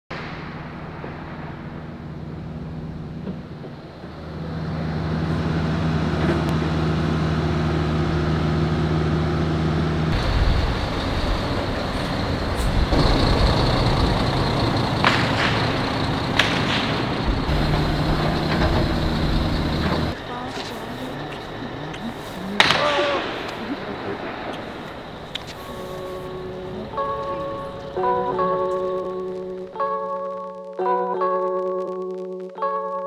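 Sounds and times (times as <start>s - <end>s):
diesel truck engine idling: 2.5s - 29.7s.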